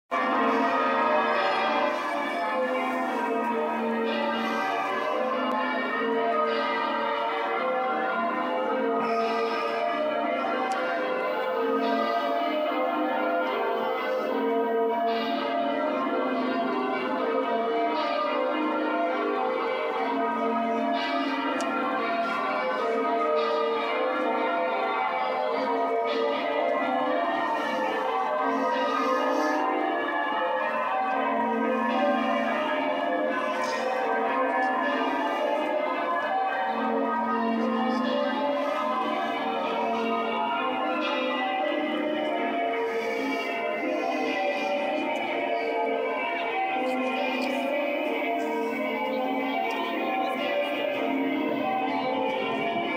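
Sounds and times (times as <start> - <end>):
church bells ringing: 0.1 - 52.9.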